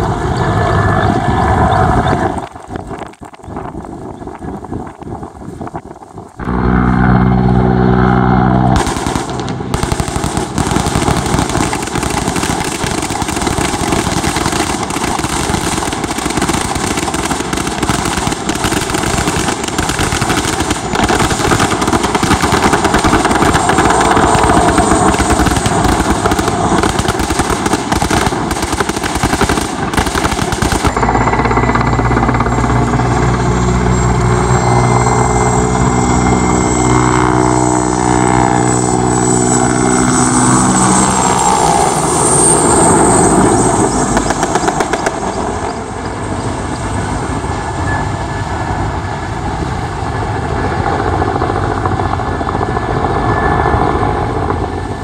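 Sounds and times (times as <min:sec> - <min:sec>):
helicopter turbine and rotor hum: 0:00.0 - 0:55.0.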